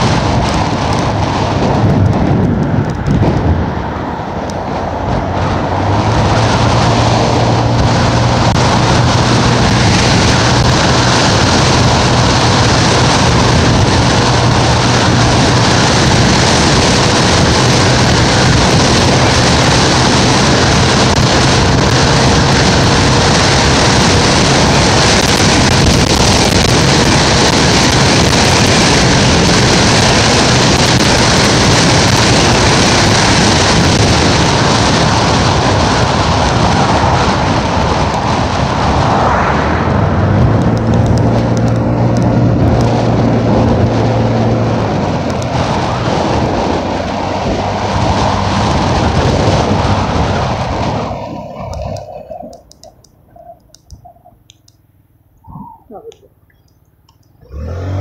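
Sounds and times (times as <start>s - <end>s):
wind rushing over microphone: 0.0s - 56.3s, 57.1s - 58.0s
engine drone: 0.0s - 58.0s.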